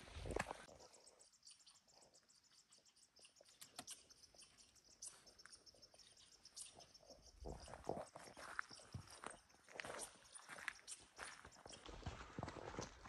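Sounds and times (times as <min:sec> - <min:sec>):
faint high-pitched chirps: 0:00.6 - 0:12.2.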